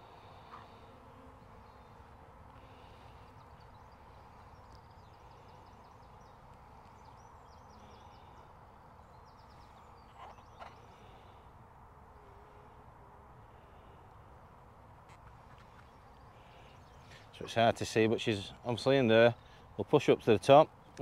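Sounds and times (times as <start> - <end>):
distant birdsong: 0.0 - 12.8, 13.4 - 21.0.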